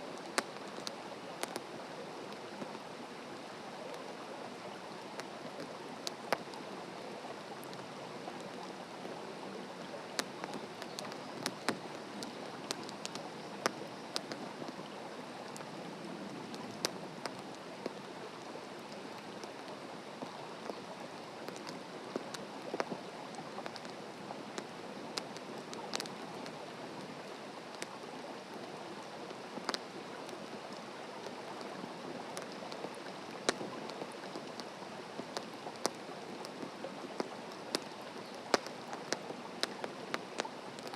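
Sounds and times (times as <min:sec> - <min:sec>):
campfire crackling: 0:00.1 - 0:02.9, 0:04.4 - 0:40.9.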